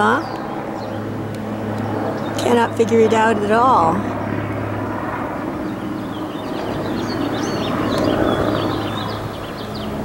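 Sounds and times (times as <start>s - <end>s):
small birds chirping: 0.0s - 4.5s, 5.4s - 10.0s
airplane flying overhead: 0.0s - 10.0s
helicopter drone: 0.0s - 10.0s.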